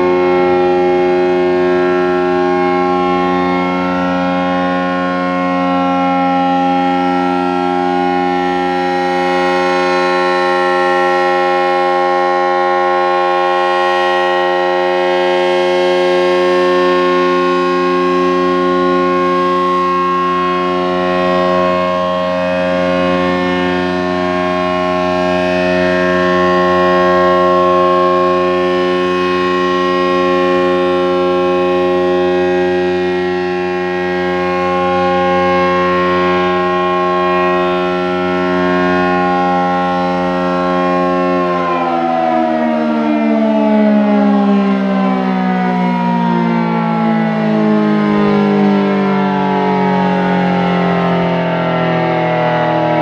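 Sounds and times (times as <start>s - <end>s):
warning siren steady tone: 0.0s - 53.0s.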